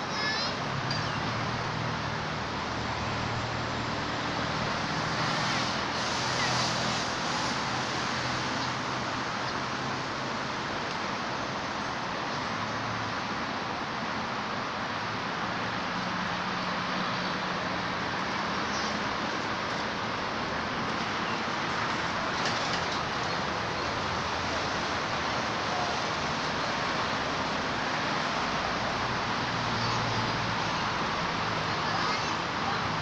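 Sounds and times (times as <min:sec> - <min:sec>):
roadside traffic noise: 0:00.0 - 0:33.0.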